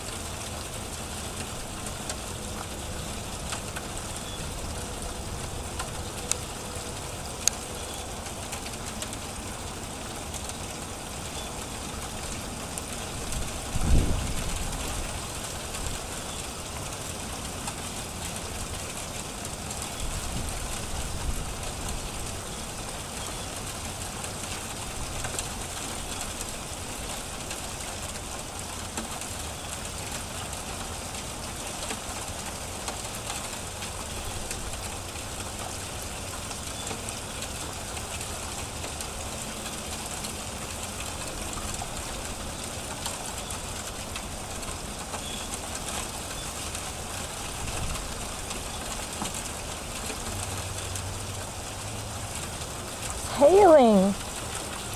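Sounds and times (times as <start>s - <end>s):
hail and rain patter: 0.0s - 54.9s.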